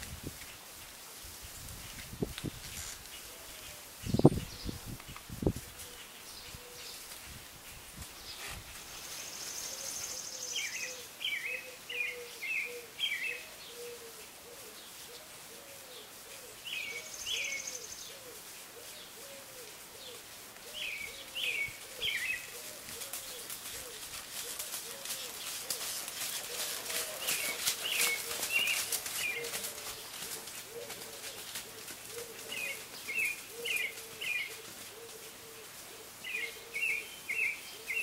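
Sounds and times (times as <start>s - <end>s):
songbirds chirping: 0.3s - 38.0s.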